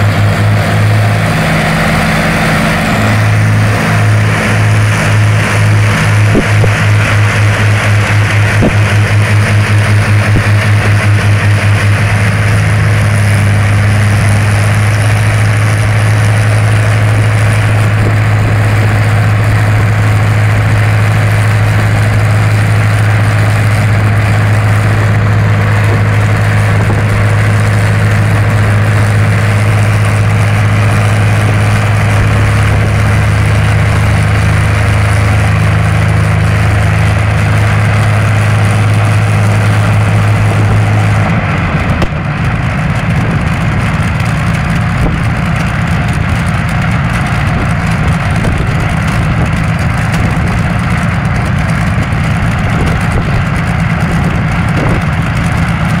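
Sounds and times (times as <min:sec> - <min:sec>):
aero engine running: 0:00.0 - 0:56.0.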